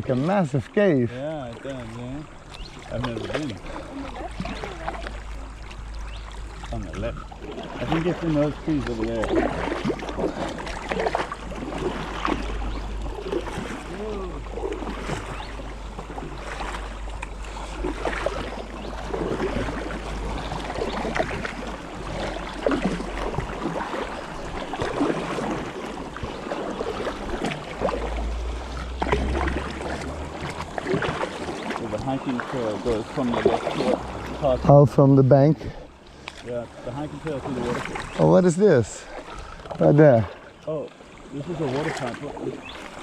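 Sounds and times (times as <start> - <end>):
paddle strokes in water: 0.0 - 43.0
water splashing and dripping: 0.0 - 43.0.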